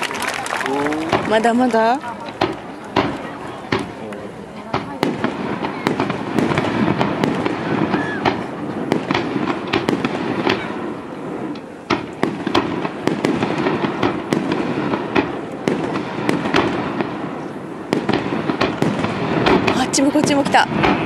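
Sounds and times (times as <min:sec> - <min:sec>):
fireworks bursting with sharp bangs: 0:00.0 - 0:21.0
steady background noise: 0:00.0 - 0:21.0.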